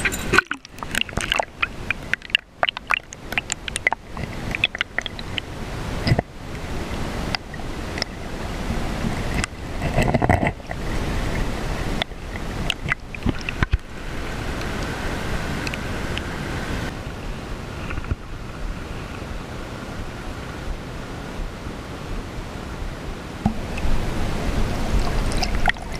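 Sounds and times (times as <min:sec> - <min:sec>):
river water rushing underwater: 0:00.0 - 0:25.9.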